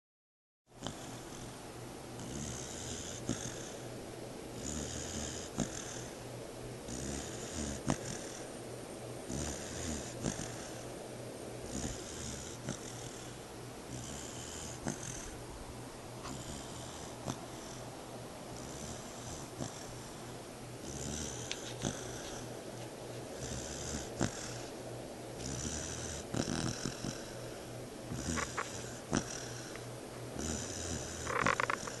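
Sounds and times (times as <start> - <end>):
puppy snoring: 0.8 - 1.6, 2.2 - 6.2, 6.8 - 11.0, 11.6 - 15.4, 16.2 - 32.0.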